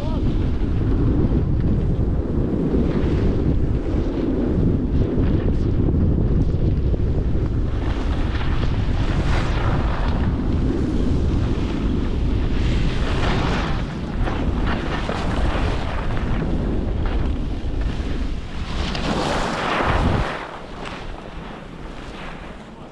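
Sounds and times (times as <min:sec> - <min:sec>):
skis scraping over snow: 0:00.0 - 0:22.9
wind buffeting microphone: 0:00.0 - 0:22.9.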